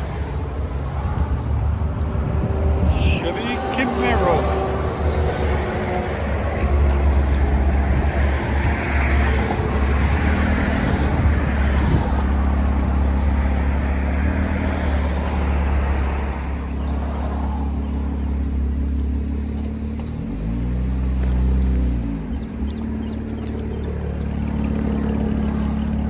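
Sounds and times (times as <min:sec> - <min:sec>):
car engine droning under load: 0:00.0 - 0:26.0.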